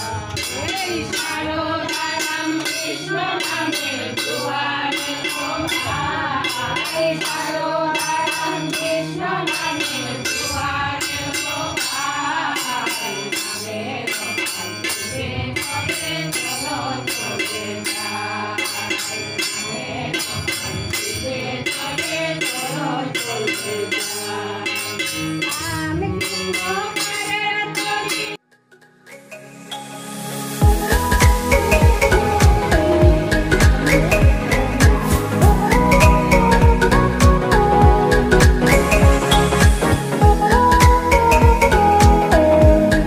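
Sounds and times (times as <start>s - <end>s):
women singing devotional song: 0.0s - 28.4s, 30.6s - 43.0s
percussion beat: 0.0s - 43.0s.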